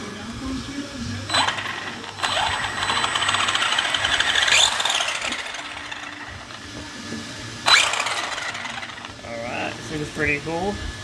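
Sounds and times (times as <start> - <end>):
electric motor whining: 1.3 - 11.0.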